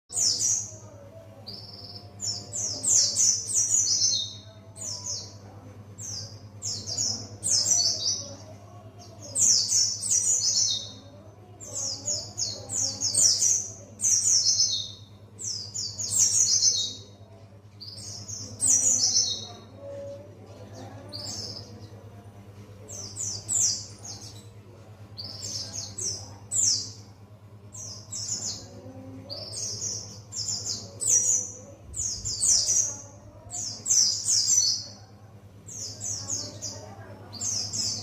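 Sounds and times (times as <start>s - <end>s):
bird singing rapid chattering phrases: 0.1s - 22.1s, 22.8s - 38.0s.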